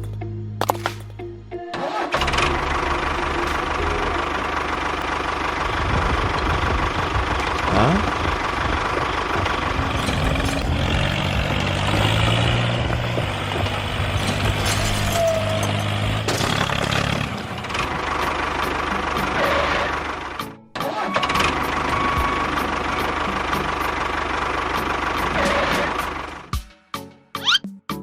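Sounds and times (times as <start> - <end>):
engine running: 0.0 - 26.6.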